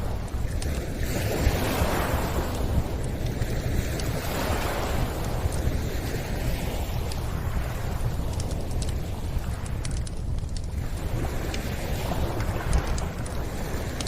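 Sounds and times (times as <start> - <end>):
campfire crackles: 0.0 - 14.0
waves washing onto shore: 0.0 - 14.0.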